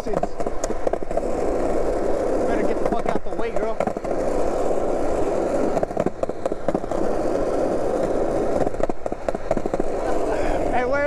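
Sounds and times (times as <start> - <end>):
skateboard wheel clicks: 0.0 - 10.7
skateboard wheels rolling on asphalt: 0.0 - 11.0.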